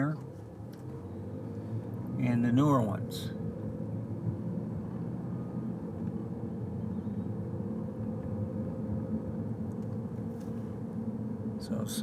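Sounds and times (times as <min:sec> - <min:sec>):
car engine hum: 0:00.0 - 0:12.0
tyres on road: 0:00.0 - 0:12.0.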